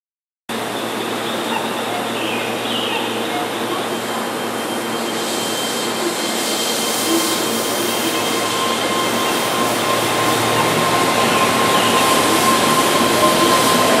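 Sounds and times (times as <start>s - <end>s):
electric train pulling away: 0.5s - 14.0s
thin whining tones: 0.9s - 14.0s.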